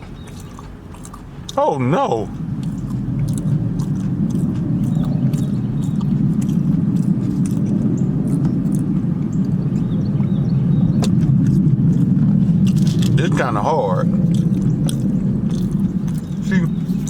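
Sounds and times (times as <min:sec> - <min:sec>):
chewing and lip-smacking: 0:00.0 - 0:17.0
vehicle idling rumble: 0:00.0 - 0:17.0.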